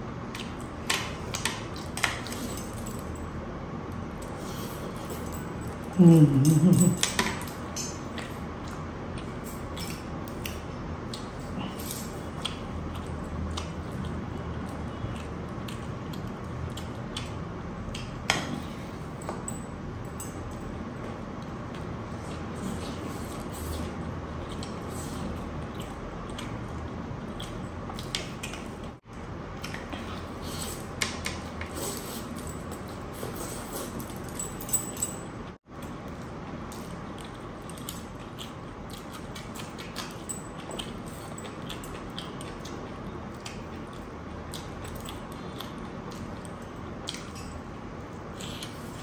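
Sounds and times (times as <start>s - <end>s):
person chewing with mouth sounds: 5.8s - 19.2s, 21.0s - 34.2s, 35.8s - 49.0s.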